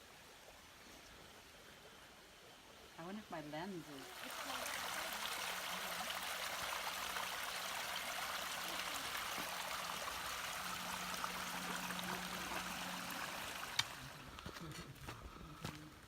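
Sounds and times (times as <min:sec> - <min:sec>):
creek flowing over rocks: 0:00.0 - 0:15.1.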